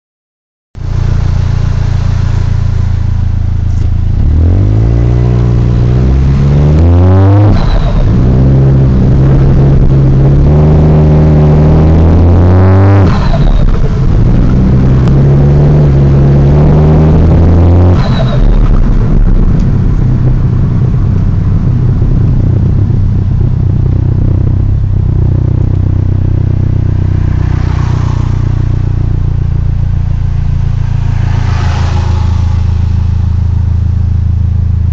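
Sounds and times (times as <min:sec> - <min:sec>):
car engine idling and revving: 0:00.8 - 0:34.9.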